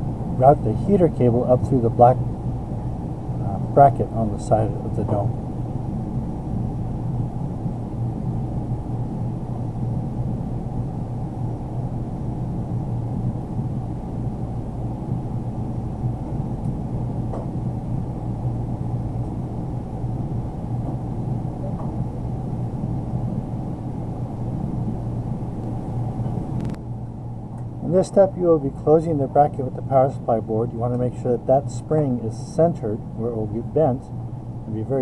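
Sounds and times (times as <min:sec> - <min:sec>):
low room noise rumble: 0:00.0 - 0:35.0.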